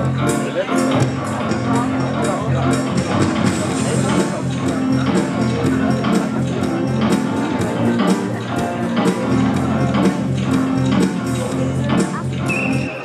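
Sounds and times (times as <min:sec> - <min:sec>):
music with steady beat and bass: 0:00.0 - 0:13.0.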